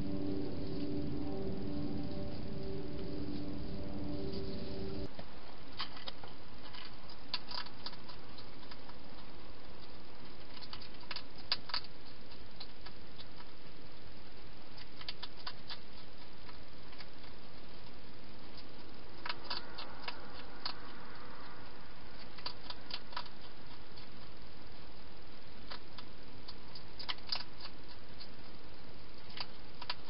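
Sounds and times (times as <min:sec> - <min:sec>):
steady hiss: 0:00.0 - 0:05.8, 0:06.4 - 0:30.0
hedgehog chewing crunches: 0:05.7 - 0:30.0.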